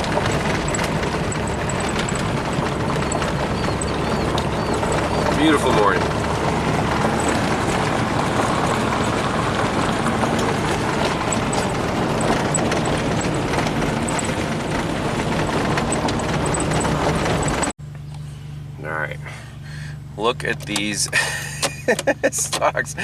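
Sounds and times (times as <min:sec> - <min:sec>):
car engine running: 0:00.0 - 0:23.0
road and wind noise: 0:00.0 - 0:23.0.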